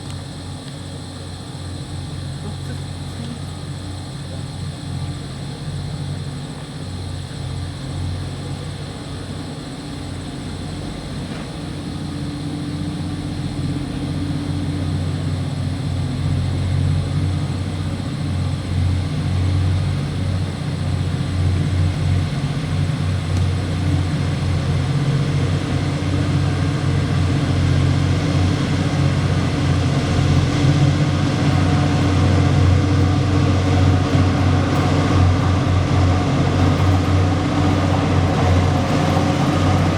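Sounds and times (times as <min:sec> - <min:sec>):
locomotive engines humming: 0:00.0 - 0:39.9.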